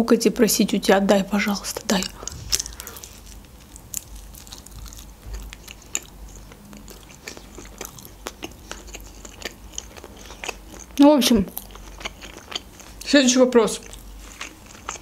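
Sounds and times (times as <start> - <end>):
person chewing pizza: 1.4 - 15.0.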